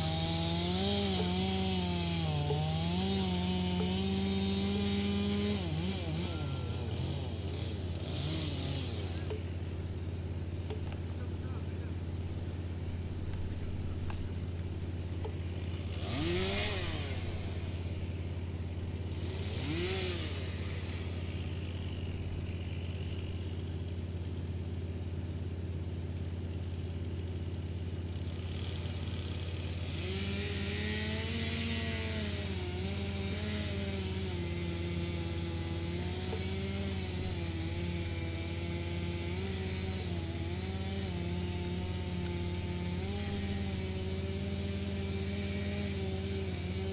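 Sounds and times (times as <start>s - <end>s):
wood chipping: 0.0s - 24.7s, 31.1s - 46.9s
wood chipper running: 0.0s - 46.9s.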